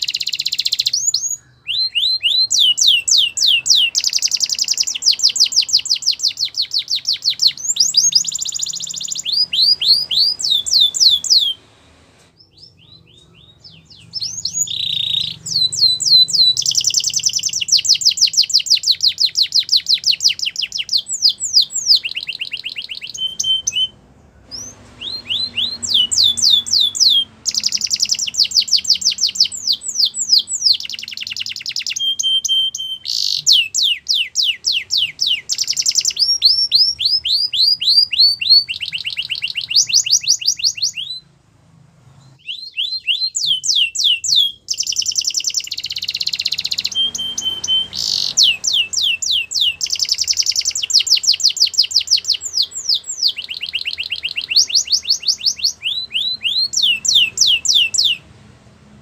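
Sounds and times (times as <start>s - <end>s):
canary singing trills: 0.0s - 11.7s, 12.3s - 41.4s, 42.0s - 58.4s.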